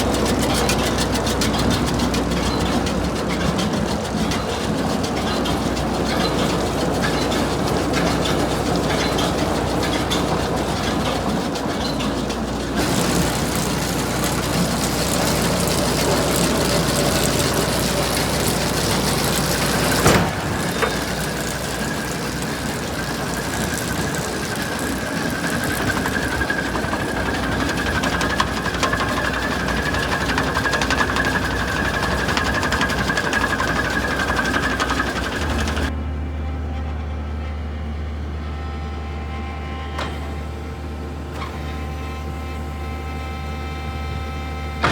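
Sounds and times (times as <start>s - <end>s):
baler machinery running: 0.0s - 44.9s.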